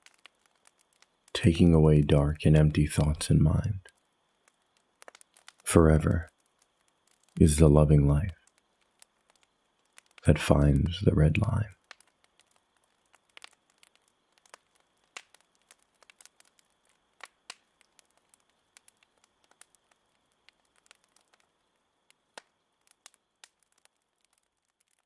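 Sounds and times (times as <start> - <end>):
faint hiss: 0.0 - 24.3
small clicks and crackles: 0.0 - 25.0.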